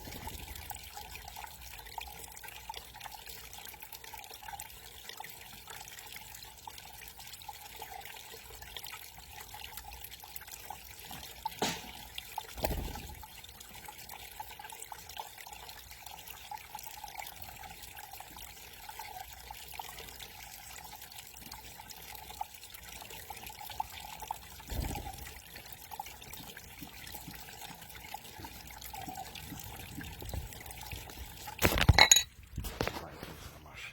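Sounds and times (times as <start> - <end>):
garden waterfall trickling: 0.0 - 33.9.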